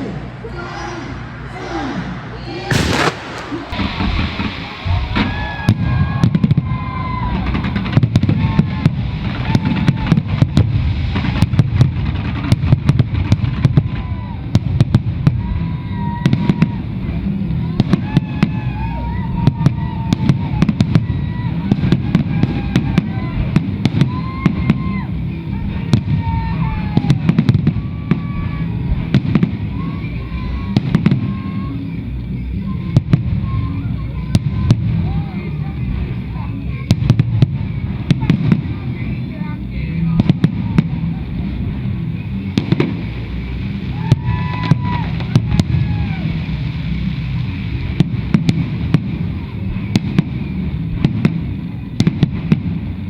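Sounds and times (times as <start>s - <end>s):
fireworks whistling: 0.0s - 53.0s
fireworks bangs: 0.8s - 53.0s
low rumble of booms: 2.7s - 31.7s, 32.3s - 53.0s.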